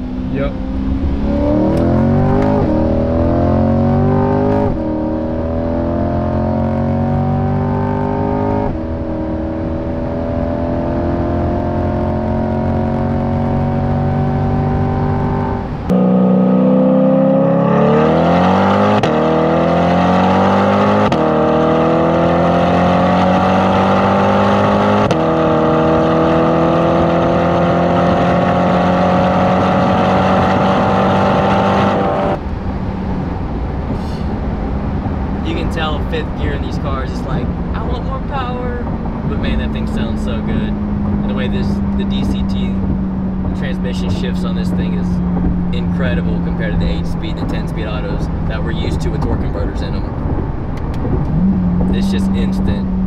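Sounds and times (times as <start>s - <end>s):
car engine accelerating hard: 0.0s - 53.0s.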